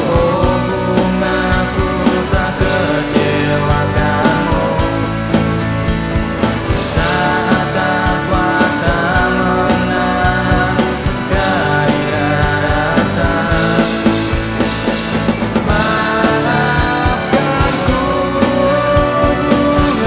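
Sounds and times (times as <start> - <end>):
drum beat with cymbals: 0.0 - 20.0
sustained electric guitar: 0.0 - 20.0.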